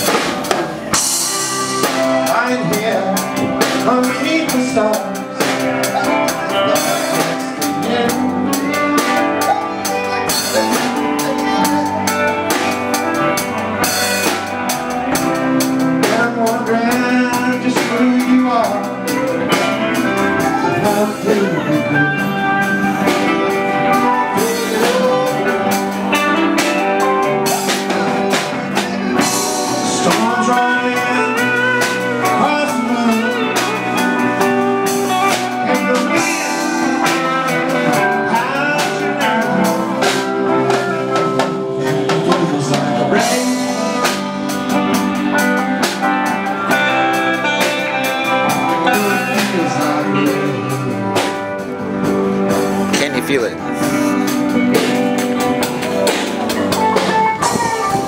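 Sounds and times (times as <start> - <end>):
blues band playing: 0.0 - 58.0
electric guitar: 0.0 - 58.0.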